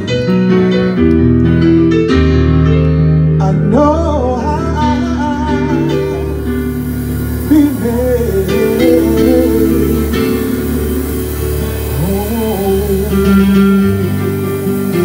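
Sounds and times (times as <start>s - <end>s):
guitar: 0.0s - 15.0s
live soul band playing: 0.0s - 15.0s.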